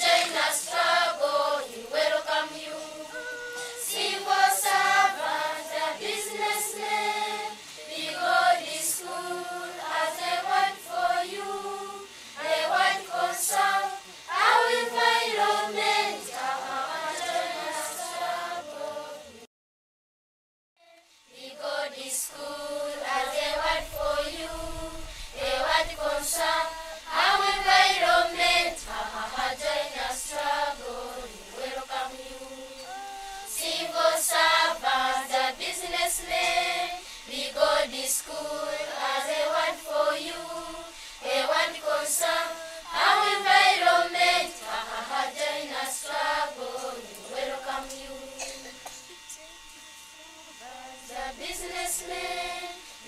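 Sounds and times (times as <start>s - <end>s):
children singing in chorus: 0.0s - 19.4s, 21.3s - 48.8s, 50.6s - 52.8s.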